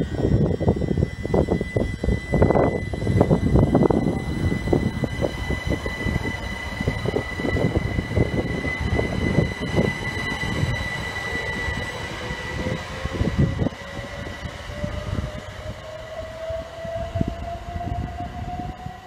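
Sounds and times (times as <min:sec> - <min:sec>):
train high whine: 0:00.0 - 0:19.0.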